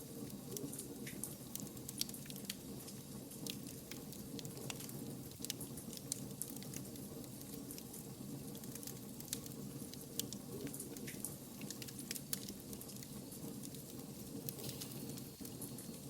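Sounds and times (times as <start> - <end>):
fire pops and snaps: 0.1 - 16.0
flames rushing: 0.9 - 16.0.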